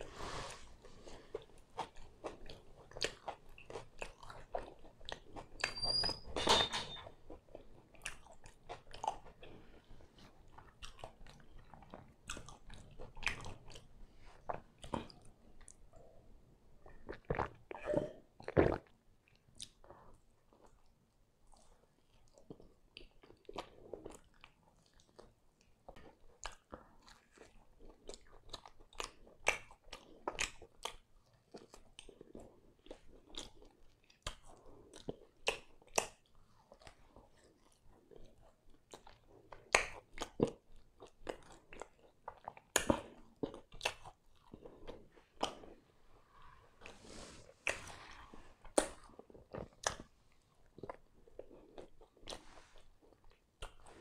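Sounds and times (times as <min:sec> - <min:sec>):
soft chewing: 0:00.0 - 0:06.4, 0:07.0 - 0:54.0.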